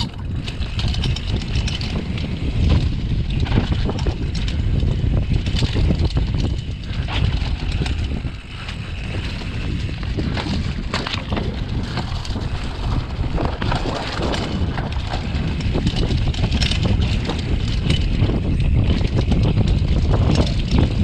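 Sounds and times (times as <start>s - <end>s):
bike rattling: 0.0s - 21.0s
tyres rolling over dirt and leaves: 0.0s - 21.0s
wind buffeting microphone: 0.0s - 21.0s.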